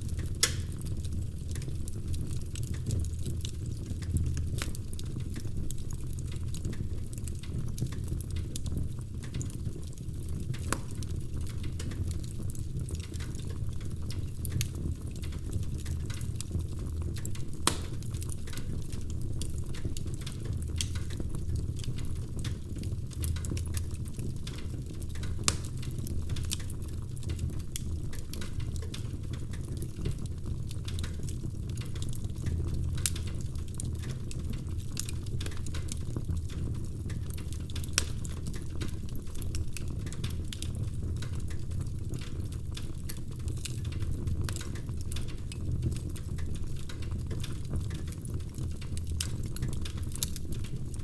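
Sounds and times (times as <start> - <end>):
fire crackling and popping: 0.0 - 51.0
low rumble of flames: 0.0 - 51.0.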